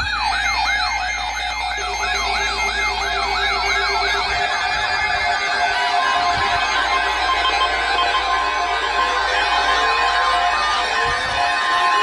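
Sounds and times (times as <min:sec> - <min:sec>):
electronic siren sweeping: 0:00.0 - 0:12.0
steady lower alarm tone: 0:00.0 - 0:12.0.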